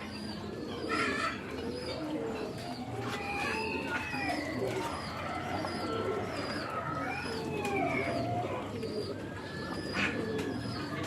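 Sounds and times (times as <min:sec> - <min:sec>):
waterfowl flock calling: 0:00.6 - 0:10.8.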